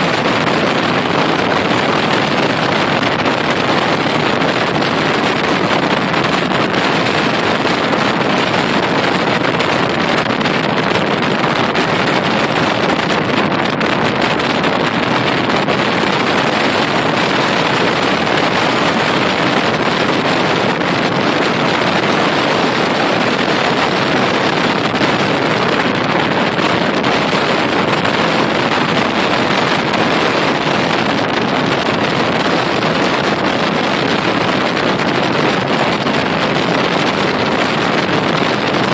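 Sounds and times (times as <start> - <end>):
rushing wind and road noise: 0.0 - 38.9.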